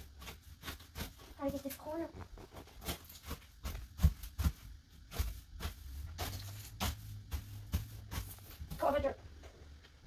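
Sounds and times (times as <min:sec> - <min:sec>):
broom sweeping a floor: 0:00.0 - 0:09.2.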